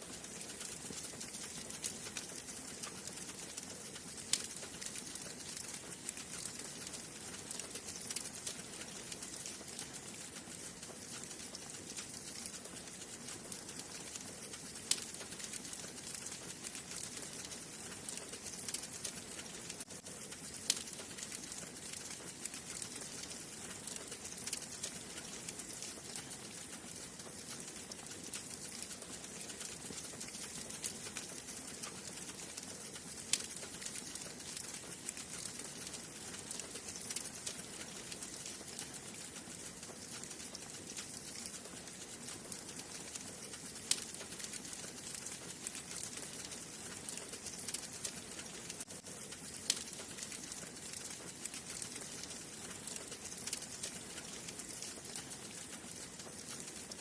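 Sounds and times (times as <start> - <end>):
wood fire hissing and crackling: 0.0 - 57.0.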